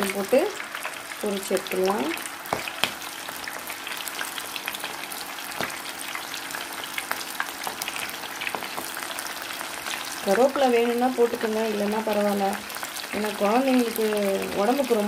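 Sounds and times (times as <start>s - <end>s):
oil crackling while deep-frying: 0.0s - 15.0s.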